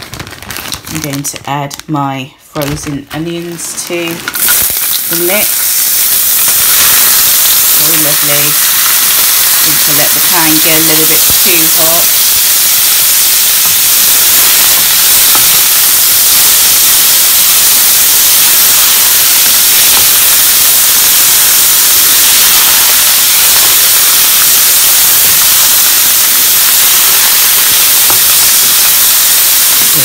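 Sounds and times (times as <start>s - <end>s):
onions sizzling in hot oil: 2.8s - 30.0s.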